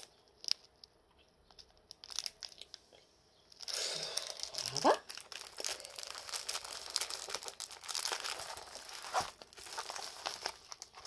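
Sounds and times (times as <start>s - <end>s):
plastic packaging crinkling: 0.0s - 2.8s, 3.5s - 11.0s.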